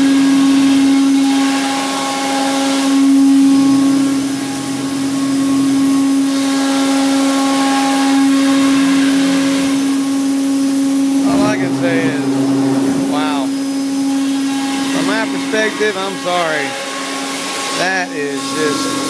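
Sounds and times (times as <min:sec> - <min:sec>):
router spindle high whine: 0:00.0 - 0:19.0.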